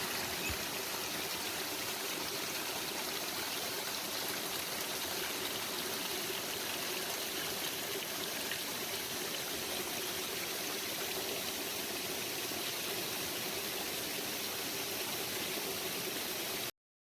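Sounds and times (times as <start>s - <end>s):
stream water flowing: 0.0s - 16.7s.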